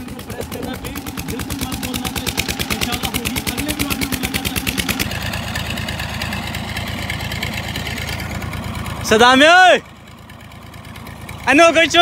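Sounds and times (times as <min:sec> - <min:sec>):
engine chugging with rapid putts: 0:00.0 - 0:12.0
tractor diesel engine idling: 0:00.0 - 0:12.0.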